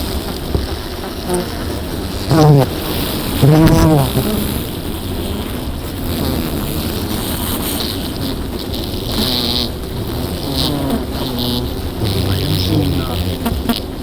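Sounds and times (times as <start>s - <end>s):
bee colony humming: 0.0s - 14.0s
single bees buzzing close: 0.0s - 14.0s.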